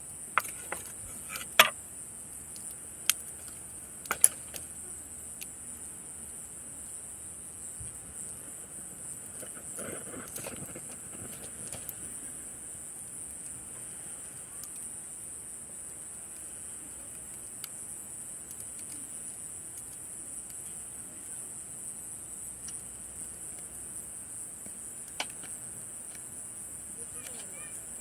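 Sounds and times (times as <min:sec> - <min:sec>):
campfire crackling and popping: 0:00.0 - 0:28.0
night insects chirring: 0:00.0 - 0:28.0.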